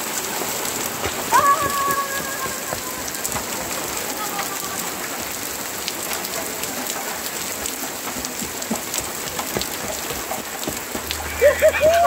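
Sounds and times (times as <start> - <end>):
heavy rain falling: 0.0 - 12.0
raindrops tapping hard surface: 0.0 - 12.0.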